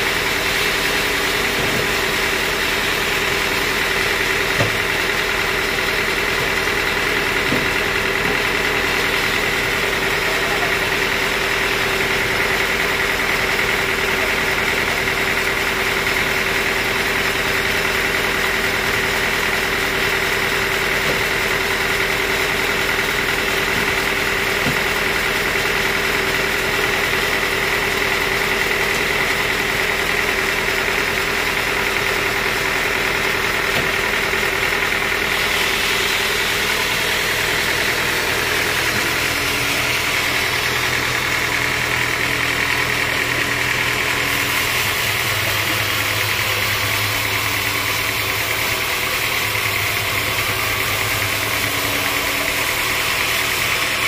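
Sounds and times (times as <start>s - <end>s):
band saw humming and whining: 0.0s - 54.0s.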